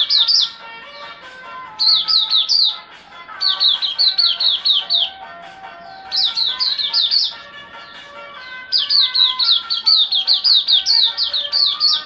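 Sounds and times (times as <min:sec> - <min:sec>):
background music: 0:00.0 - 0:12.0
bird singing high notes: 0:00.0 - 0:12.0.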